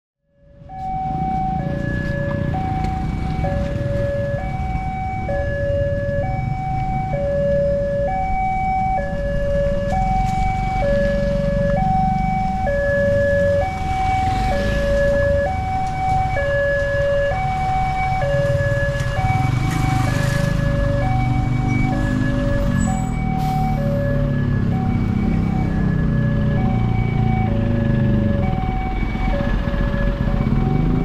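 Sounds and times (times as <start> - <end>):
road traffic rumble: 0.3 - 31.0
level crossing two-tone alarm: 0.4 - 31.0.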